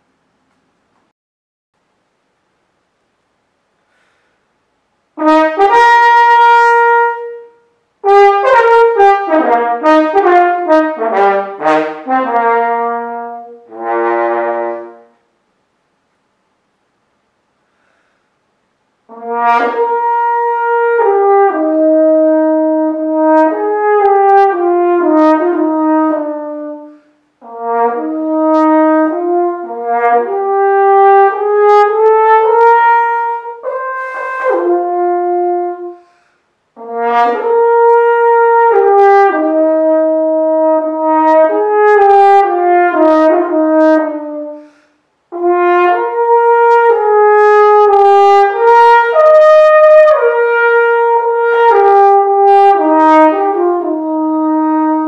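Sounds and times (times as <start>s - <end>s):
french horn melody: 5.2s - 15.2s, 19.1s - 55.0s.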